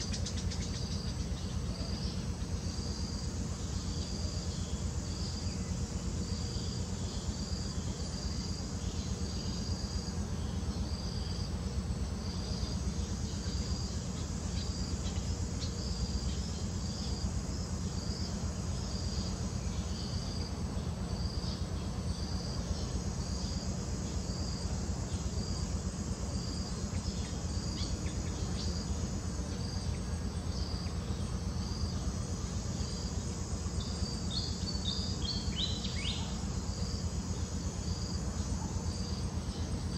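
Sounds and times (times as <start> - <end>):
insects chirping: 0.0 - 39.9
steady low rumble: 0.2 - 39.9.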